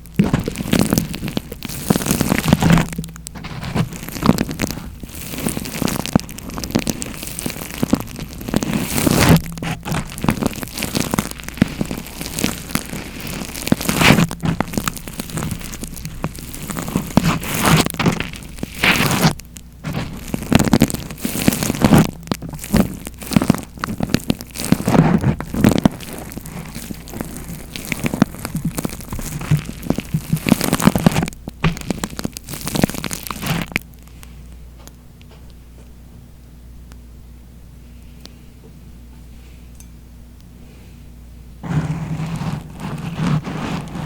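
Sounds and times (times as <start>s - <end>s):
crackling and rustling on microphone: 0.0s - 36.0s, 41.6s - 44.0s.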